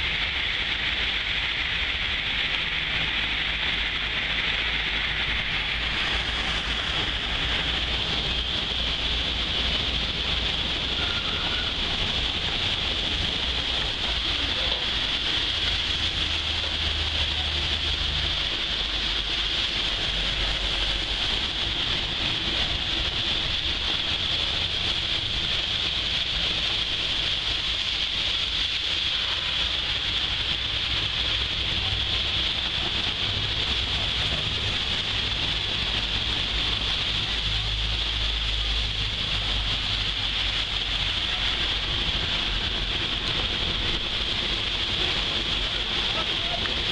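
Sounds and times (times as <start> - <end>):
heavy rain on pavement: 0.0 - 46.9
low rumble: 0.0 - 46.9.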